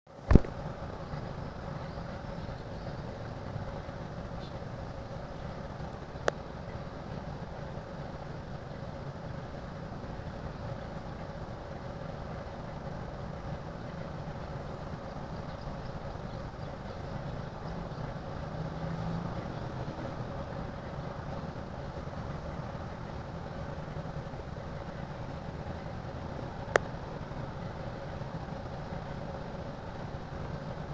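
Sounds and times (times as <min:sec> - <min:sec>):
faint engine whine: 0:00.1 - 0:30.9
jet airliner engines rumbling: 0:00.2 - 0:30.9.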